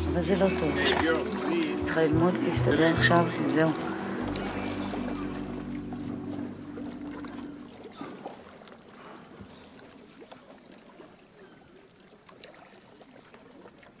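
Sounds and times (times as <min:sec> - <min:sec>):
water lapping and splashing: 0:00.0 - 0:14.0.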